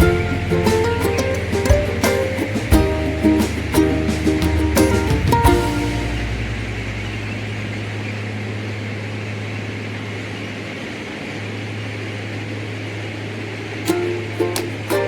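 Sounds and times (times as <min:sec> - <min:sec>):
machine mechanical drone: 0:00.0 - 0:12.3.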